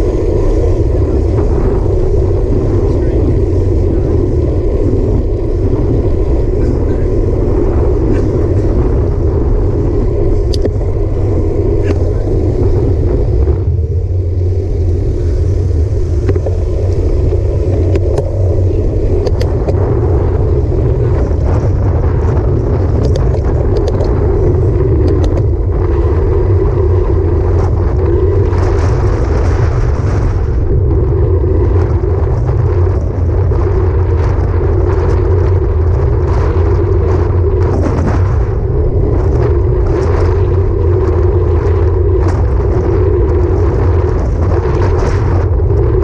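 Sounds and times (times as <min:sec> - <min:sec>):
tyres rumbling on asphalt: 0:00.0 - 0:46.0
wind rushing over microphone: 0:00.0 - 0:46.0.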